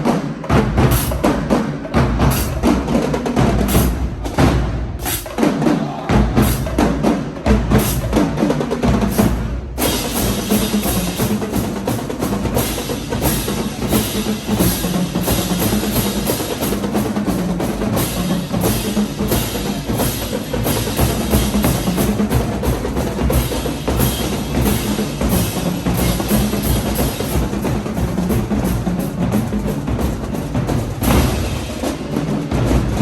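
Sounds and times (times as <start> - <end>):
snare and bass drum cadence: 0.0 - 33.0.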